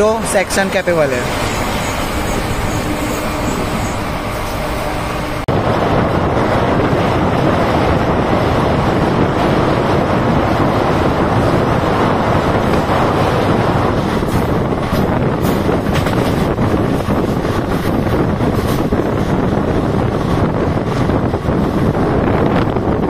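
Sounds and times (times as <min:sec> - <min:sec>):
train wheels rumbling on rails: 0:00.0 - 0:23.0
wind rushing at train window: 0:00.0 - 0:23.0.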